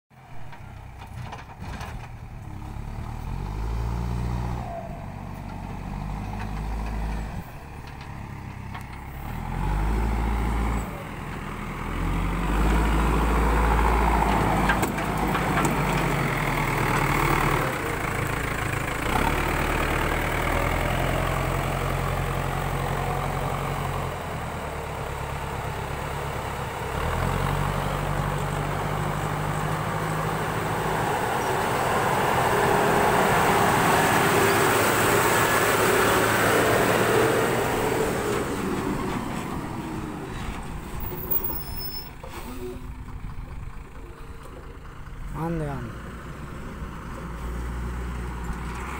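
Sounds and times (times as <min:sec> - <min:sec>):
diesel engine revving: 0:00.2 - 0:48.9.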